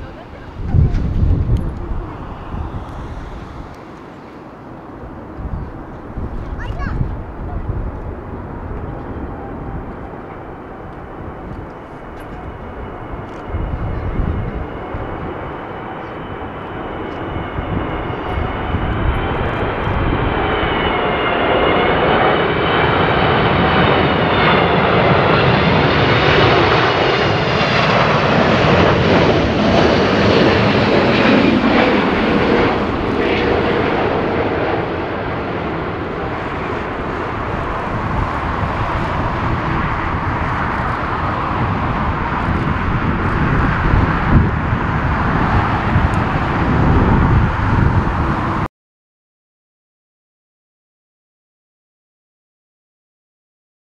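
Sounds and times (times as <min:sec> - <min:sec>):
wavering engine whine: 0:00.0 - 0:06.5, 0:07.1 - 0:48.7
jet engines on approach: 0:00.0 - 0:48.7.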